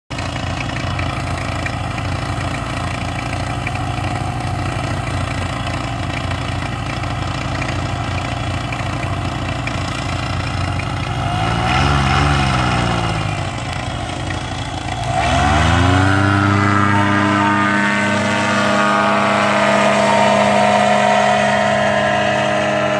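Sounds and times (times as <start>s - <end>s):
paramotor engine and propeller: 0.1s - 22.9s.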